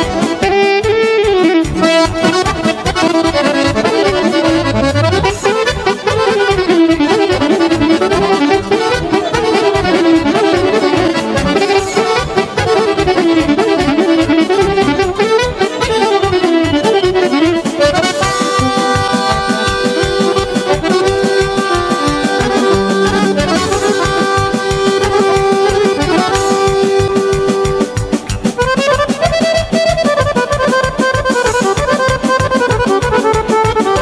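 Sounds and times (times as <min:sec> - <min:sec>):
accordion playing fast melody: 0:00.0 - 0:34.0
folk band music: 0:00.0 - 0:34.0.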